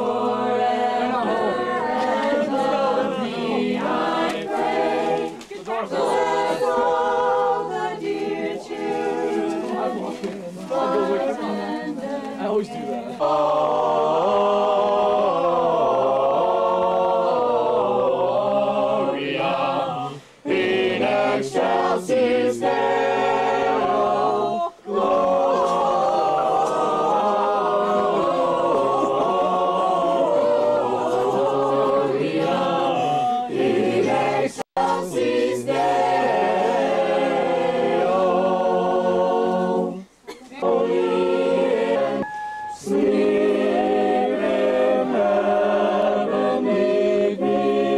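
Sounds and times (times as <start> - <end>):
group singing unaccompanied: 0.0 - 47.9.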